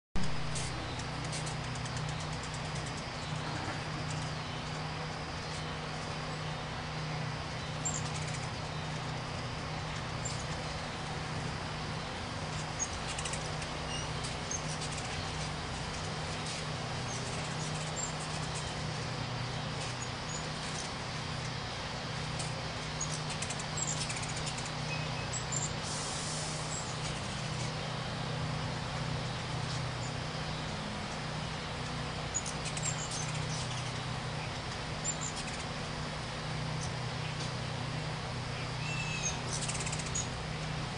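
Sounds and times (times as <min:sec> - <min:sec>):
hummingbird chips: 0:00.2 - 0:40.9
steady low hum: 0:00.2 - 0:40.9.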